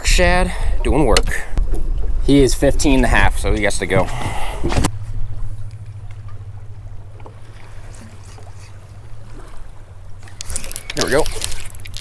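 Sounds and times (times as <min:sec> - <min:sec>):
low rumble of water and wind: 0:00.0 - 0:12.0.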